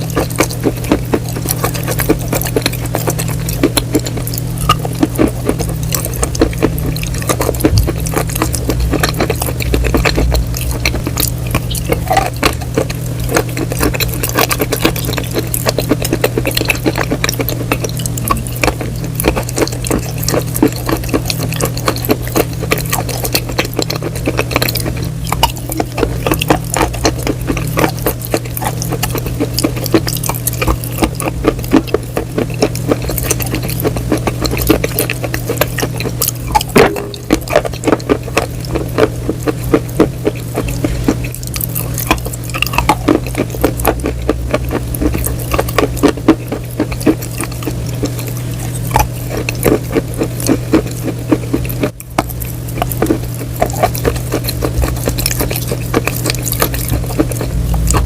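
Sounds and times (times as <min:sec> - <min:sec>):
crunchy chewing: 0:00.0 - 0:58.0
steady low hum: 0:00.0 - 0:58.0.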